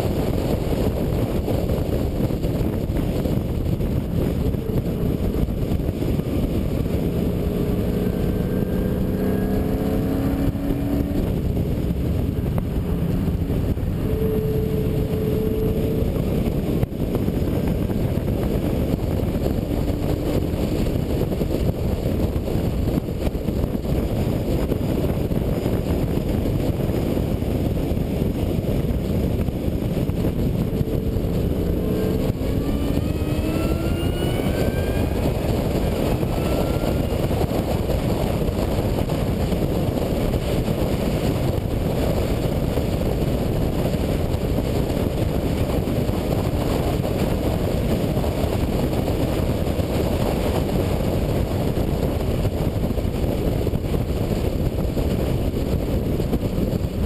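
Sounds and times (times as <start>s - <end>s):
car engine running hard: 0.0s - 57.0s
wind and road noise: 0.0s - 57.0s.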